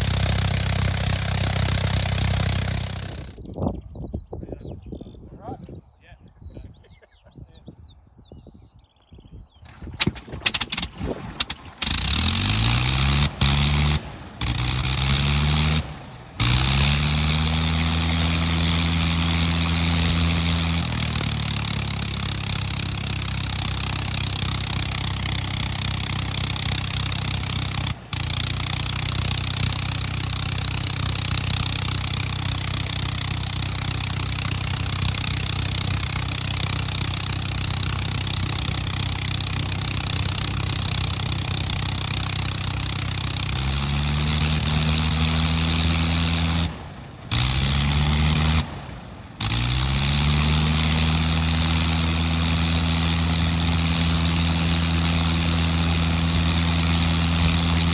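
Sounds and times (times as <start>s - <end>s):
rotary aircraft engine running: 0.0s - 3.5s, 9.5s - 57.9s.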